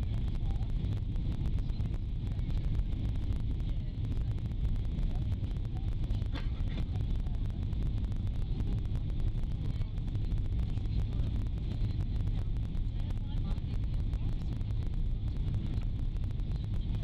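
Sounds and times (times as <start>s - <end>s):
airliner engines rumbling: 0.0s - 17.0s
faint high whine: 0.0s - 17.0s.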